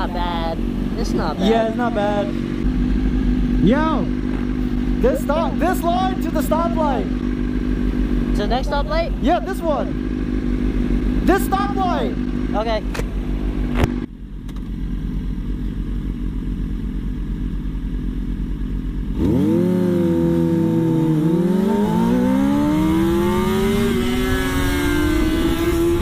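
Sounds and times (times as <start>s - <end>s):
motorcycle accelerating: 0.0s - 26.0s
motorcycle engines idling: 0.0s - 26.0s.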